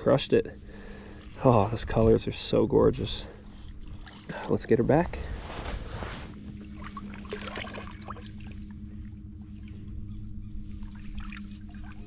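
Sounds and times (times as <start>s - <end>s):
steady low hum: 0.0s - 12.0s
water lapping and splashing: 0.6s - 12.0s.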